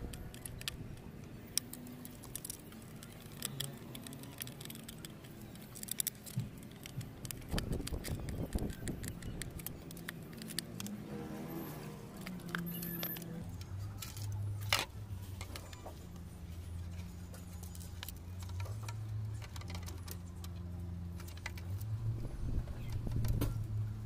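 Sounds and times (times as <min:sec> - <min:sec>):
plastic parts clicking and knocking: 0:00.0 - 0:11.0, 0:12.1 - 0:16.3, 0:16.9 - 0:21.9, 0:22.8 - 0:23.7.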